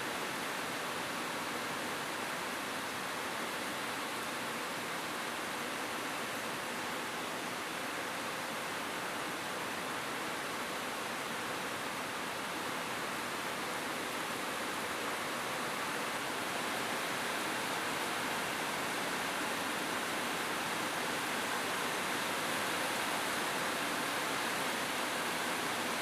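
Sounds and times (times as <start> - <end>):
rain on a roof: 0.0 - 26.0.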